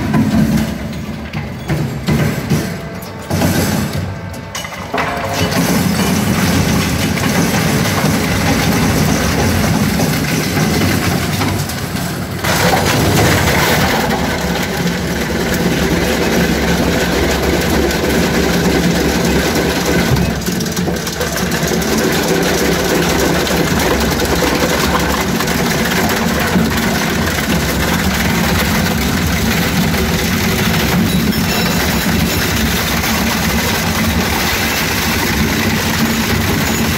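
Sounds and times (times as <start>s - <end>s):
shredder grinding: 5.4s - 36.9s.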